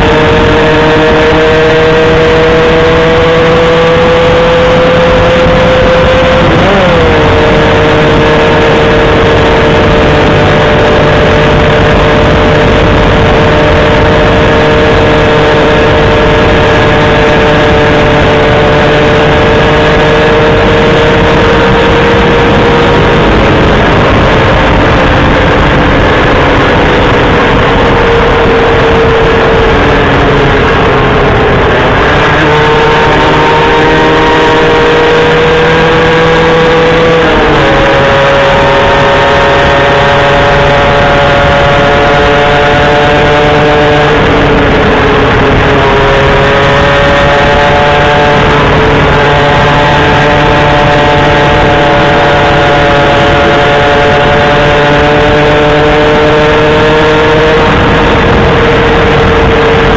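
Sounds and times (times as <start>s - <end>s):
constant noise: 0.0s - 59.9s
vehicle engine running high-pitched: 0.0s - 59.9s.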